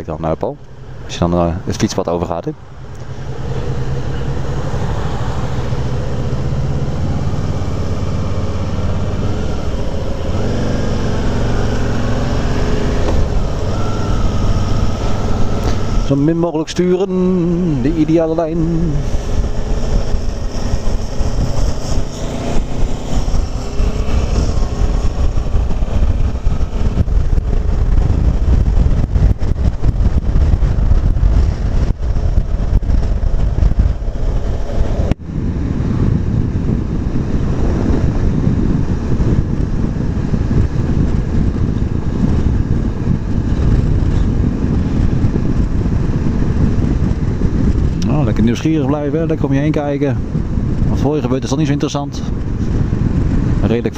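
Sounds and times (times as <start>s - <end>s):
wind rushing over microphone: 0.0s - 53.9s
motorcycle engine running: 2.7s - 16.4s, 17.0s - 48.4s.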